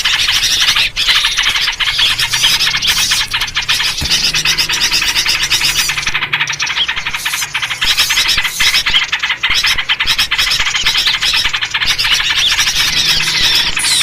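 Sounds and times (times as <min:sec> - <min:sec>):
many small birds chattering: 0:00.0 - 0:14.0.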